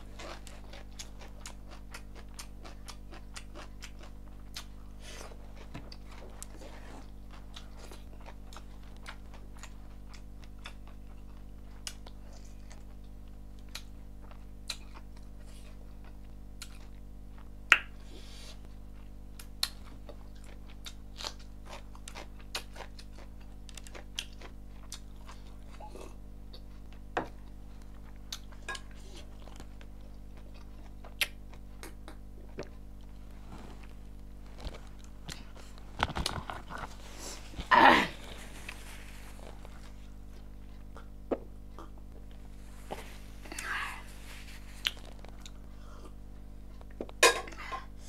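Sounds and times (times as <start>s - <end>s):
steady low hum: 0.0s - 48.0s
person chewing with mouth smacks: 0.1s - 48.0s.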